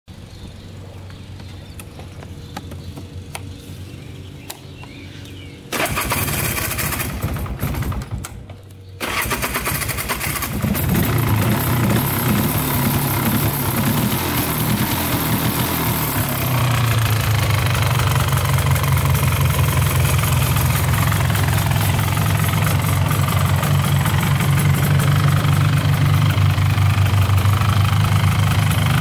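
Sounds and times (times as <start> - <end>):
atv engine idling and revving: 0.3 - 29.0.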